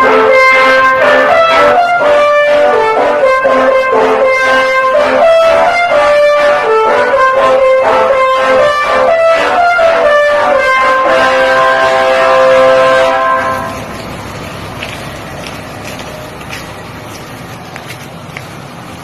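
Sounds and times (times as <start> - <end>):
multi-tone bus air horn melody: 0.0 - 16.4.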